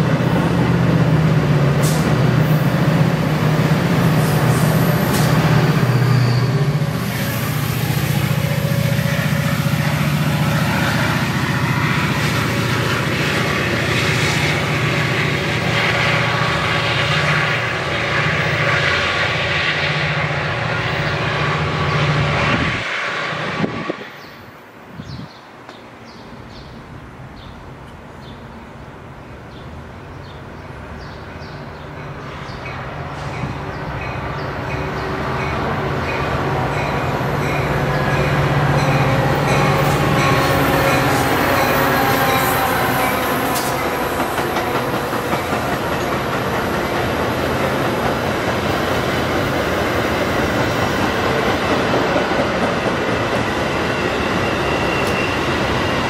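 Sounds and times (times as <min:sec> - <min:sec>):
diesel locomotive passing: 0:00.0 - 0:56.0
train coaches rumbling: 0:00.0 - 0:56.0.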